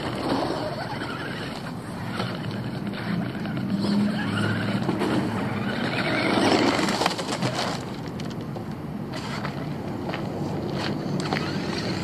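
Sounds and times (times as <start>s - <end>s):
rc buggy motor and tyres: 0.0s - 12.0s.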